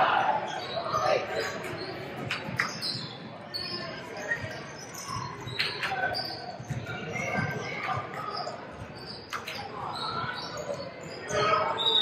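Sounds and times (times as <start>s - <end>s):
sneakers squeaking on floor: 0.5s - 12.0s.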